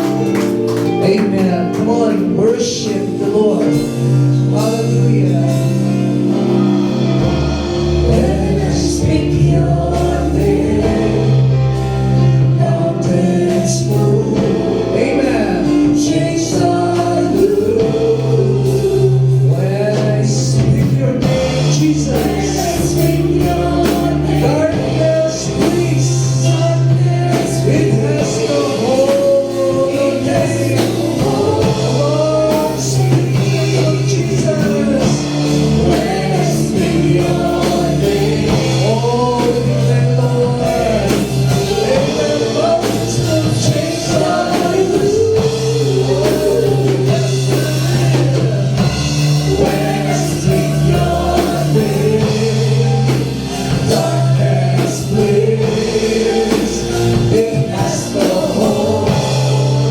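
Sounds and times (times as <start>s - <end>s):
voices singing: 0.0s - 59.9s
worship band playing: 0.0s - 59.9s.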